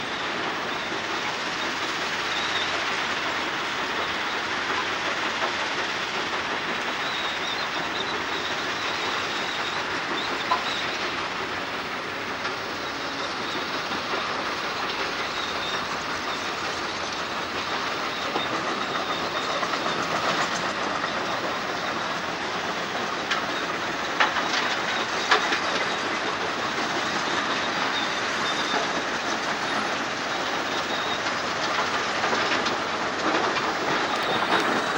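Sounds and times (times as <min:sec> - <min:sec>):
excavator tracks clattering: 0:00.0 - 0:34.9.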